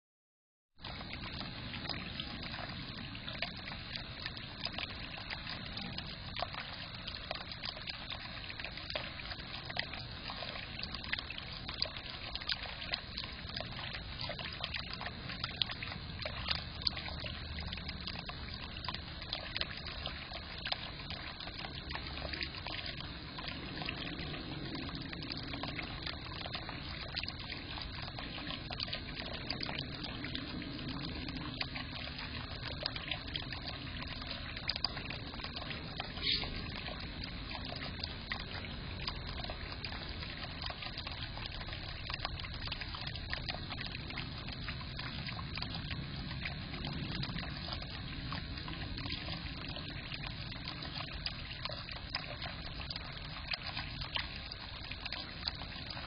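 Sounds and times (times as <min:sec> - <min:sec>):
fountain water trickling: 0:00.8 - 0:56.0.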